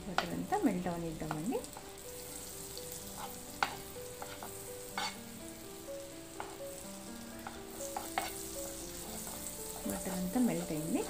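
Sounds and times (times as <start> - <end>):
butter sizzling in frying pan: 0.0 - 11.0.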